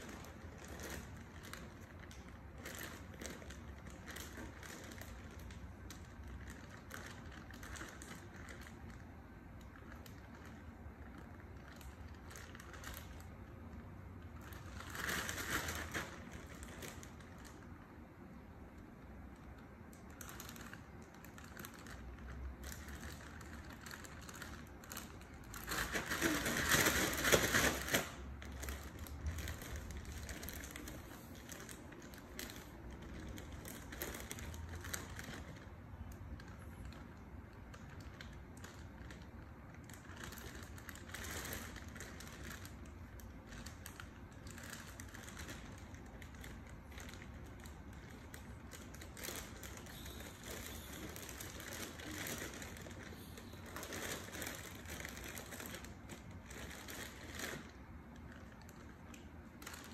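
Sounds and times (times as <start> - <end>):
crinkling rustling: 0.0 - 59.9.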